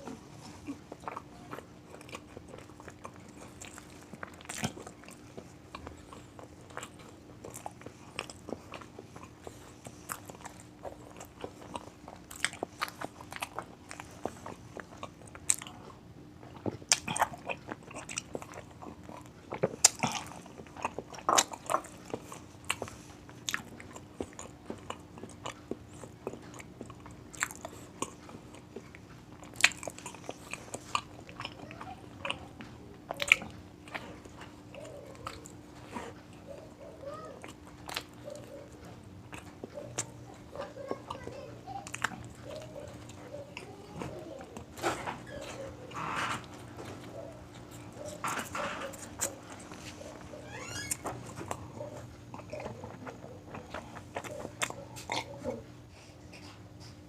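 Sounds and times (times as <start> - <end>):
faint steady hum: 0.0 - 57.0
person chewing crunchy food: 0.0 - 57.0.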